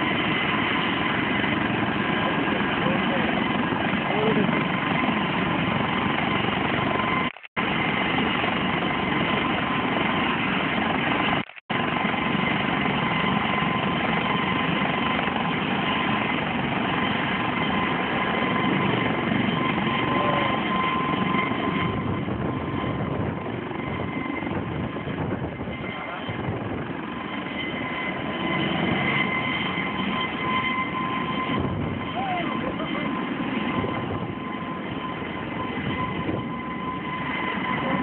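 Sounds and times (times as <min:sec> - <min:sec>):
helicopter turbine and rotor: 0:00.0 - 0:38.0.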